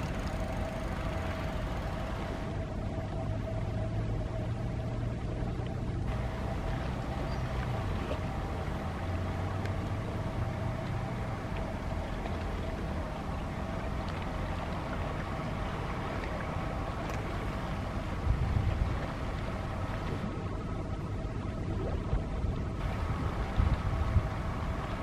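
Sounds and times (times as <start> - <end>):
engine-like drone: 0.0 - 25.0
wind rumbling on microphone: 0.0 - 25.0.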